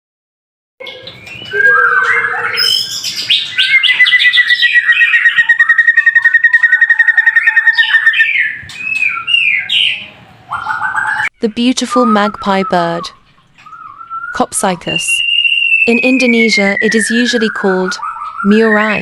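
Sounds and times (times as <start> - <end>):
bird singing whistled phrases: 0.8 - 19.0.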